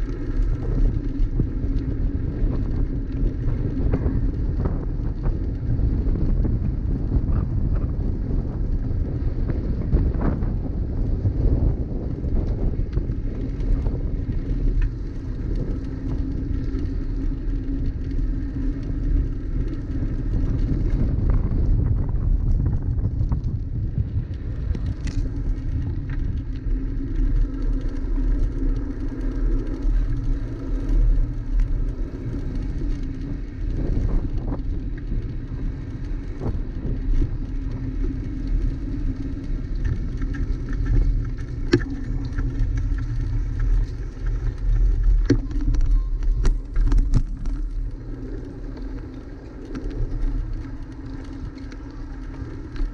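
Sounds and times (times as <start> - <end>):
bicycle road noise: 0.0 - 52.9
wind rumbling on microphone: 0.0 - 52.9.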